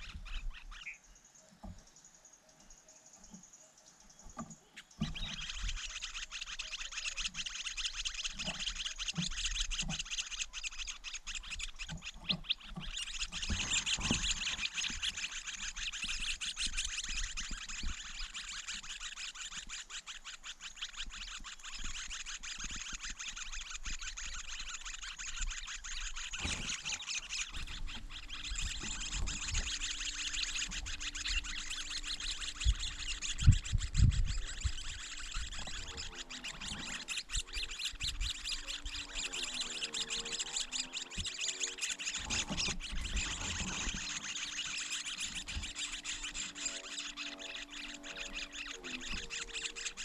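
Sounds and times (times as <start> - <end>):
insect chorus buzzing: 4.2 - 50.0.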